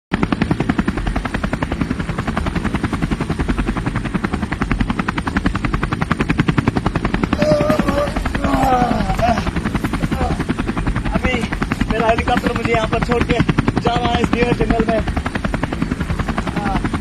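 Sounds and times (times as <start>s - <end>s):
helicopter rotor chopping: 0.1s - 17.0s.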